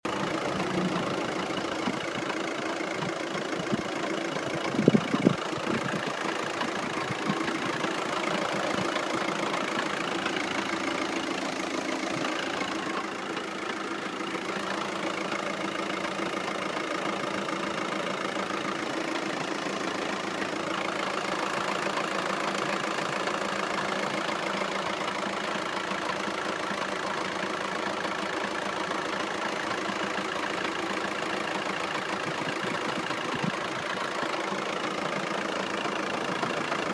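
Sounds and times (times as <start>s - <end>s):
car engine idling: 0.0s - 36.9s
engine ticking and knocking: 0.0s - 36.9s.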